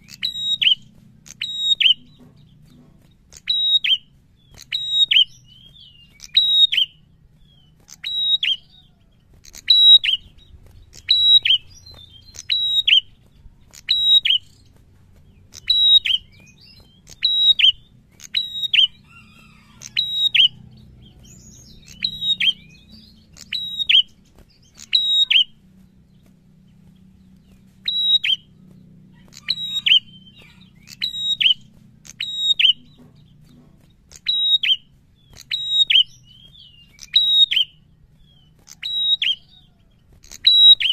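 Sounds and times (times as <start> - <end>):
bird calling: 0.0 - 40.9.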